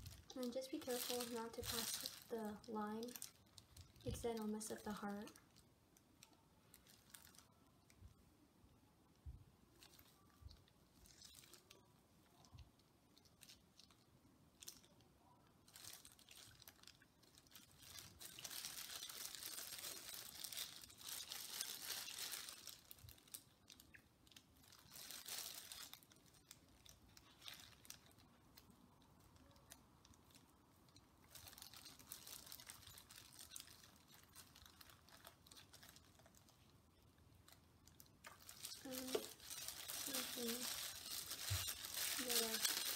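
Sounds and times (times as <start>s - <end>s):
plastic bag crinkling: 0.0s - 5.6s, 6.2s - 7.6s, 9.8s - 12.6s, 14.6s - 15.0s, 15.6s - 30.4s, 31.2s - 36.7s, 37.4s - 42.9s.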